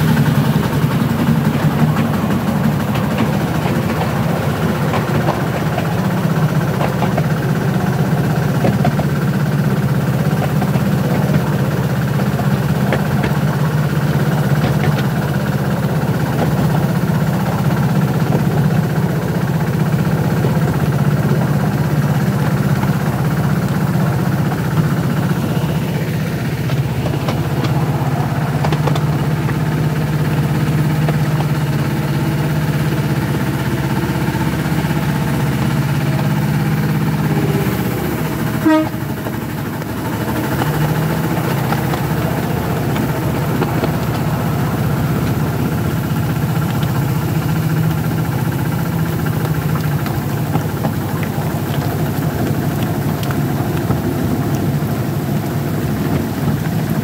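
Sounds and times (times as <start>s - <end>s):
locomotive engine running: 0.0s - 57.0s.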